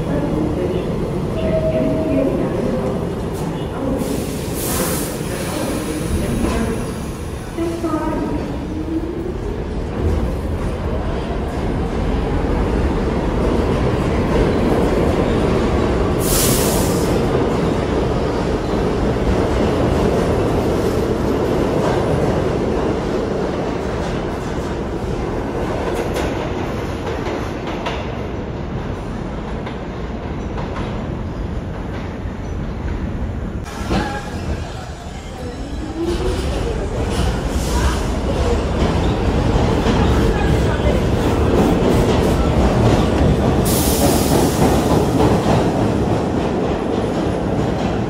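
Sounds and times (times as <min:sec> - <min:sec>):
subway train rumbling on rails: 0:00.0 - 0:48.0.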